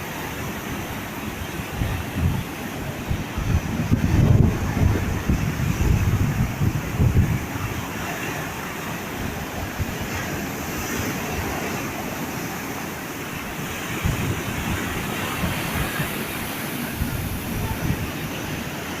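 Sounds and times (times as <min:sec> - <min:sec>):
wind buffeting microphone: 0:00.0 - 0:12.8, 0:13.4 - 0:19.0
sea waves washing ashore: 0:00.0 - 0:19.0.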